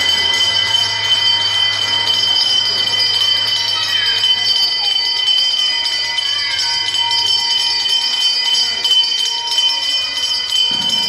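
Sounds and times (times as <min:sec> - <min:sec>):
bells ringing: 0:00.0 - 0:11.0.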